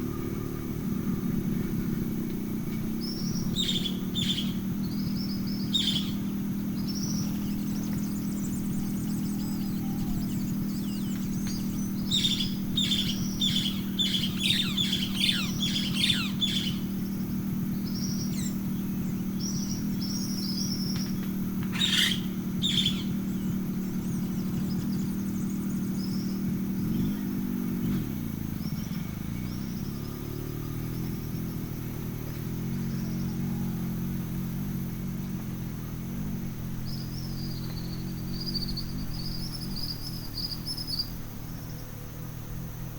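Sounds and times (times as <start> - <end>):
birds chirping: 0.0 - 42.9
steady low hum: 0.0 - 42.9.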